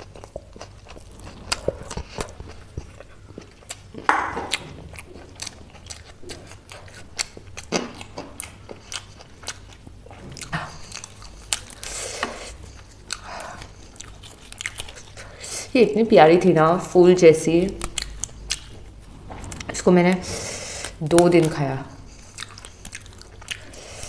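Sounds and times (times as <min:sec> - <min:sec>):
person chewing with wet smacks: 0:00.0 - 0:15.7, 0:17.5 - 0:24.0.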